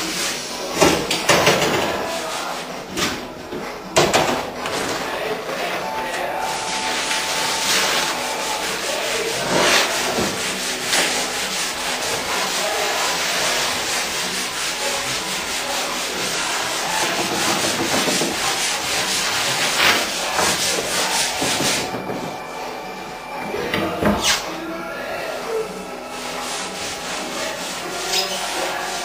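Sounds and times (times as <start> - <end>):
wooden panels rubbing and scraping: 0.0 - 29.0.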